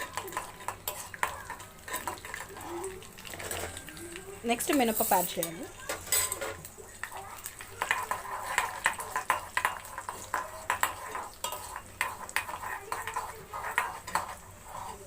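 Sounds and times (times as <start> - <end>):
utensil scraping pan: 0.0 - 2.7, 4.7 - 15.0
food sizzling in hot oil: 0.0 - 15.0.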